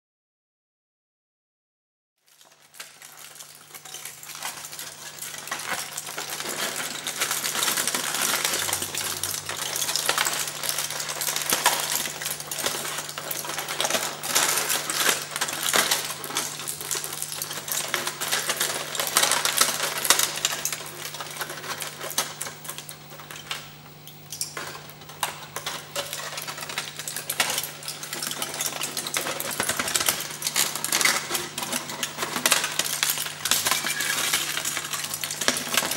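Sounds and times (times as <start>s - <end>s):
foil crumpling crackle: 2.2s - 35.9s.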